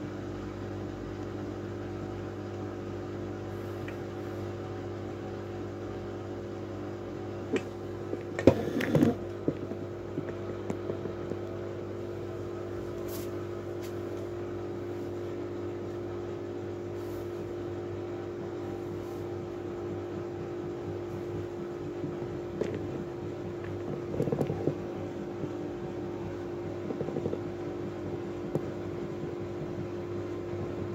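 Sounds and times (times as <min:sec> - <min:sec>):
washing machine motor hum: 0:00.0 - 0:30.9.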